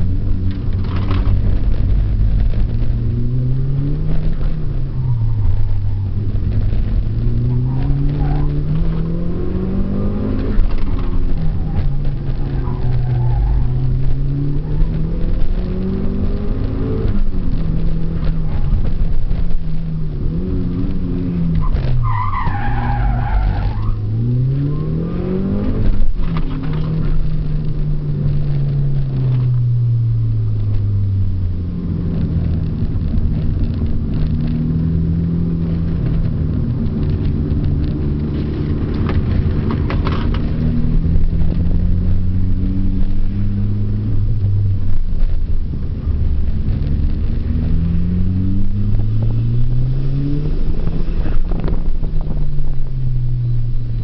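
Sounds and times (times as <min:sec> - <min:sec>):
turbocharged car engine revving: 0:00.0 - 0:54.0.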